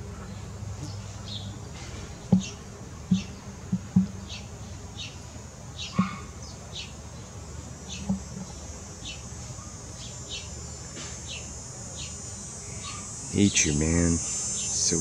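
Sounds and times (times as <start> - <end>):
small bird chirping: 0.8 - 15.0.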